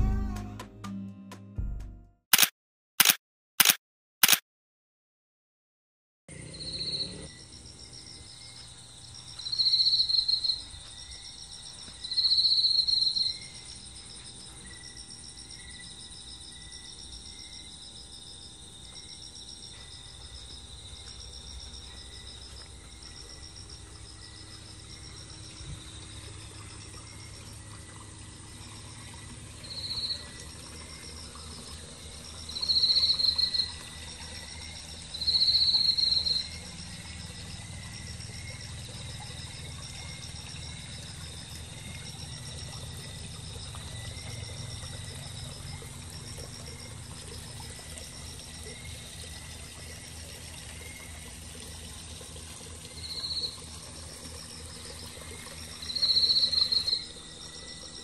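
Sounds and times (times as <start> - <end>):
crickets chirping: 6.3 - 58.0
pond water trickling: 6.3 - 58.0
shrill insect calls: 6.5 - 49.2, 52.9 - 58.0.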